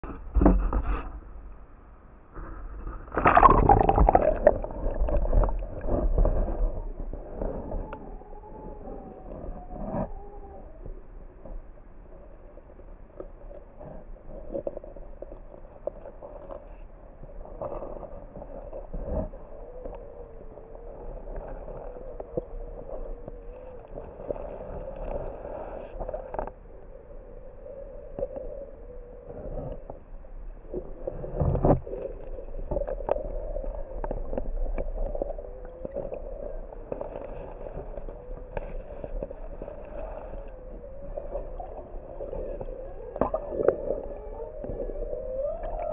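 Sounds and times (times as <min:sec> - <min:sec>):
underwater flowing water: 0:00.0 - 0:45.9.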